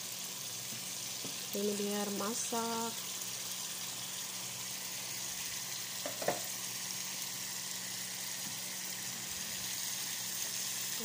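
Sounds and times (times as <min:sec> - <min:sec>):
spice paste sizzling in a pan: 0:00.0 - 0:11.0.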